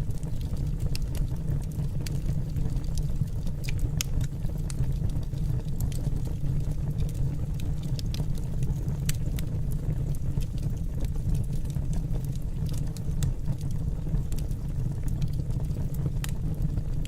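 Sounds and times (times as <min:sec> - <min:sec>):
fire rumbling: 0:00.0 - 0:17.0
wood crackling and popping: 0:00.0 - 0:17.0.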